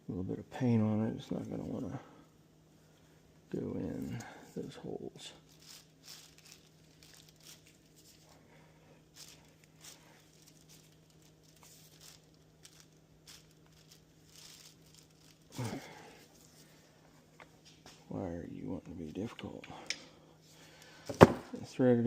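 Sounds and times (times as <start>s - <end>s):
low hum: 0.0s - 21.7s.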